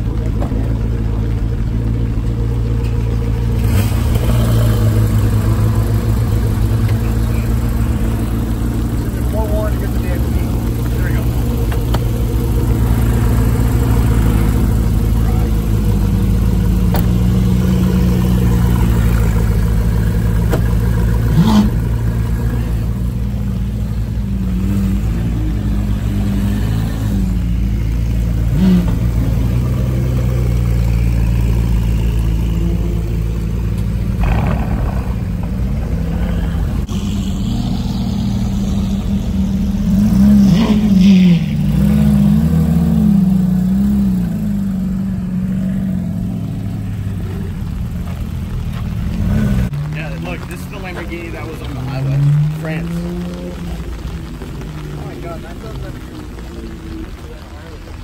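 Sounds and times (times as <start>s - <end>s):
car engines droning and revving: 0.0s - 58.0s.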